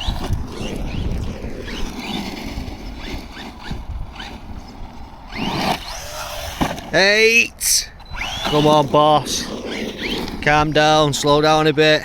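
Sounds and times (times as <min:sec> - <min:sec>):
rc truck electric motor whining: 0:00.0 - 0:11.3.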